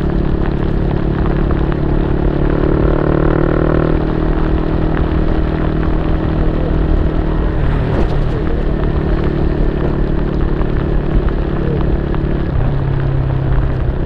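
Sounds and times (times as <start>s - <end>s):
motorcycle engine drone: 0.0s - 14.0s.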